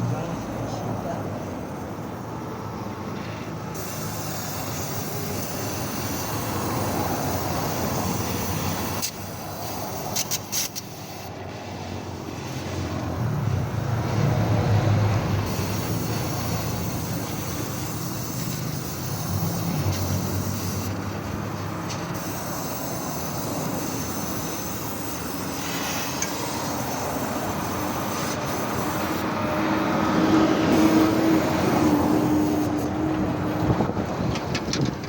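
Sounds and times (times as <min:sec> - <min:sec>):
car engine and exhaust revving: 0:00.0 - 0:35.0.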